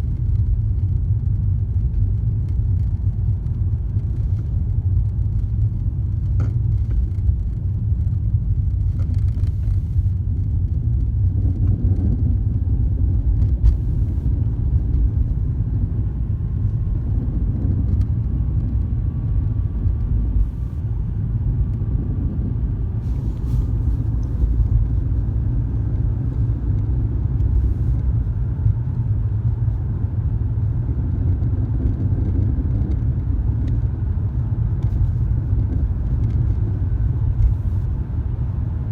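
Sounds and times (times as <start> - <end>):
car rumbling on the move: 0.0 - 38.9.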